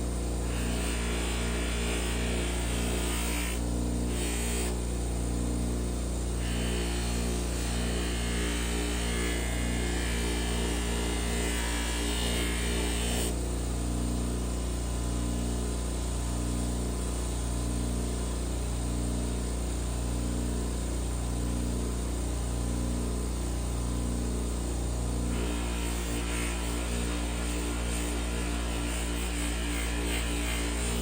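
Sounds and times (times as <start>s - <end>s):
low electrical hum with throb: 0.0s - 31.0s.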